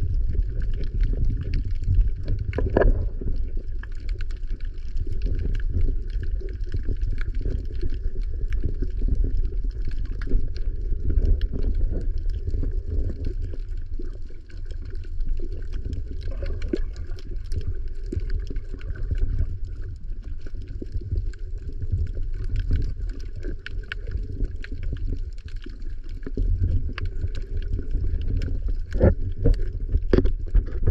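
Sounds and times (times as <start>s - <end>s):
faint underwater clicks and crackles: 0.0s - 30.9s
underwater rumble of moving water: 0.0s - 30.9s.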